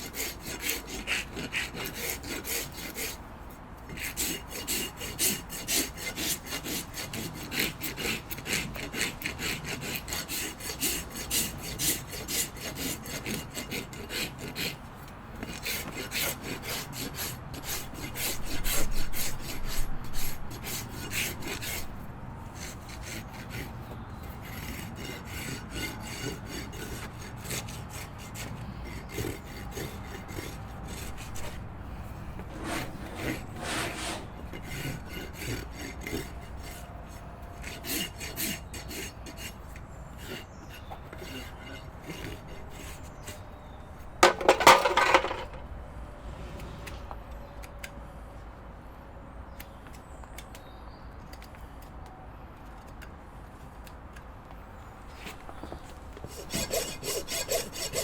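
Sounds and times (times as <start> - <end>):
rasp filing horse hoof: 0.0 - 45.6, 55.1 - 58.0.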